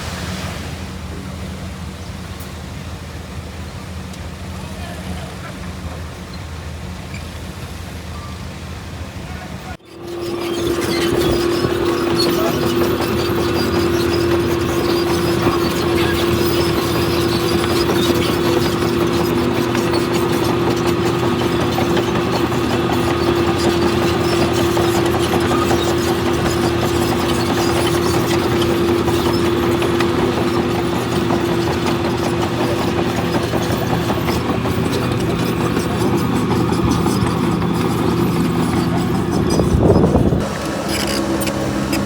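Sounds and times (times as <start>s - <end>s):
diesel engine drone: 0.0s - 42.0s.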